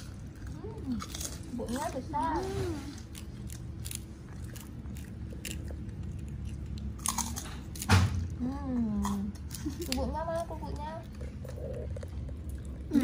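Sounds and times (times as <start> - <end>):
monkey crunching crackers: 0.0 - 13.0.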